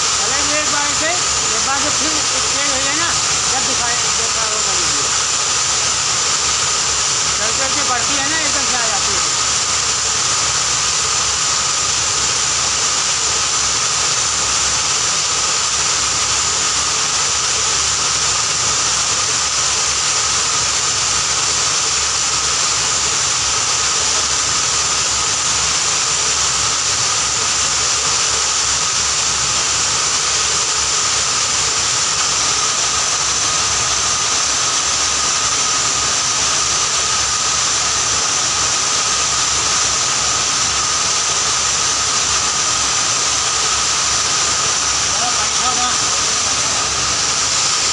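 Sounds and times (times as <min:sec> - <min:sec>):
grinding machine hiss and whine: 0:00.0 - 0:47.9.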